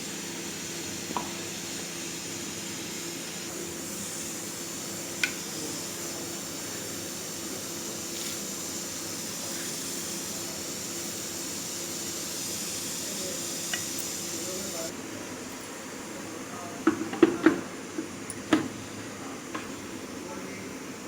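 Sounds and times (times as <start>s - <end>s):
steady hiss: 0.0s - 17.9s.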